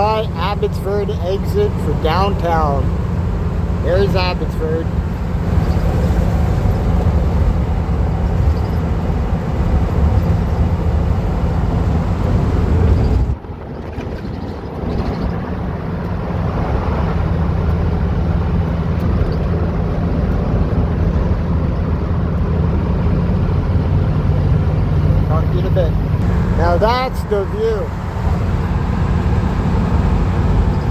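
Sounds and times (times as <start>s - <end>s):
van engine and road noise: 0.0s - 30.9s.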